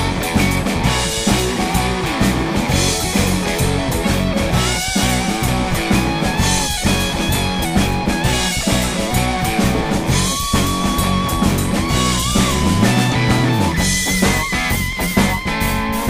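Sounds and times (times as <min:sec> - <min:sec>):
drum kit shuffle groove: 0:00.0 - 0:16.0
rock backing track: 0:00.0 - 0:16.0.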